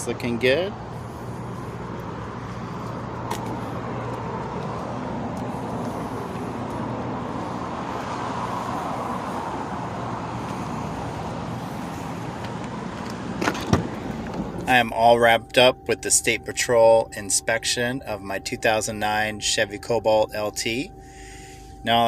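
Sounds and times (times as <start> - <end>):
car engine hum: 0.0 - 22.0
road traffic noise: 0.0 - 22.0.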